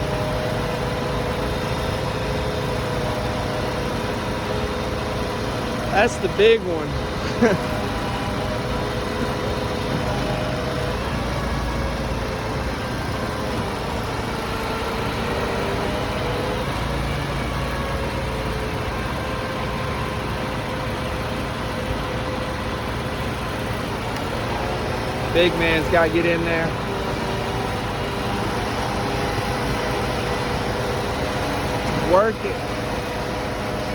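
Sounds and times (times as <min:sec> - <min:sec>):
large engine running: 0:00.0 - 0:33.9.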